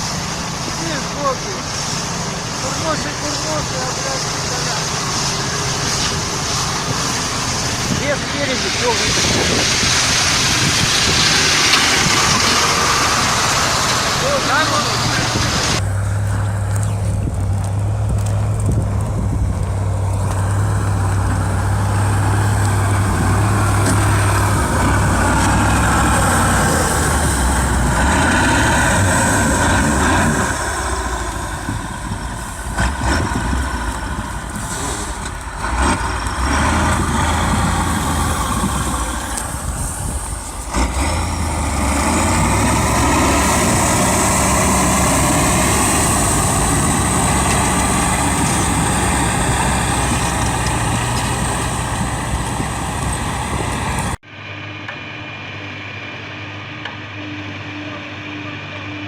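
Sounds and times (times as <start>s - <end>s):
heavy truck engine droning: 0.0s - 59.0s.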